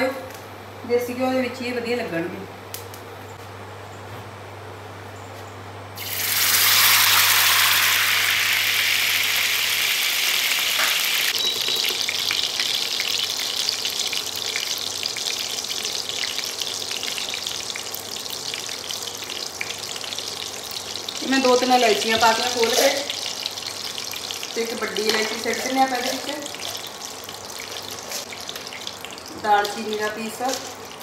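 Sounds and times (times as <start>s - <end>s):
ghee sizzling and crackling: 6.0s - 31.0s.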